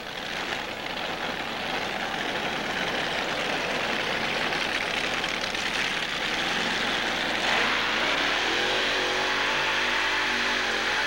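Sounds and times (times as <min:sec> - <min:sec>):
tractor engine running hard: 0:00.0 - 0:11.0.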